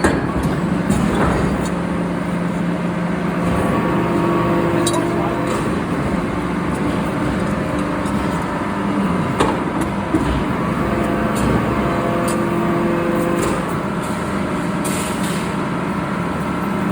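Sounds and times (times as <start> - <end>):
machinery humming: 0.0 - 16.9.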